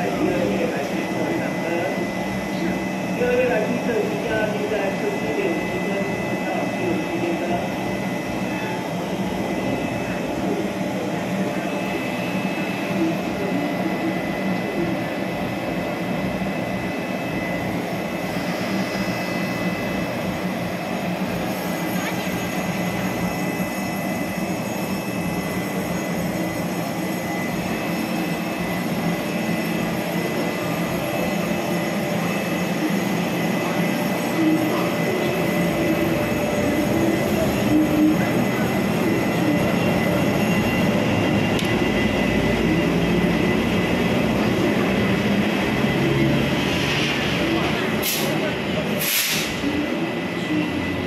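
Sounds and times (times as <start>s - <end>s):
electric locomotive humming: 0.0s - 51.0s.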